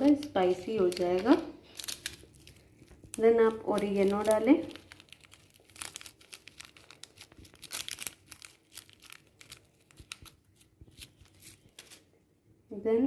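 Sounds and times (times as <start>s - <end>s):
dried herbs crinkling: 0.0s - 12.1s.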